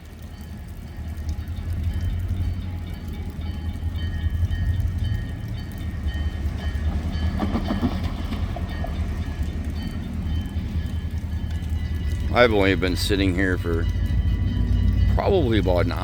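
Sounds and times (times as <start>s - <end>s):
freight train rumbling by: 0.0s - 16.0s.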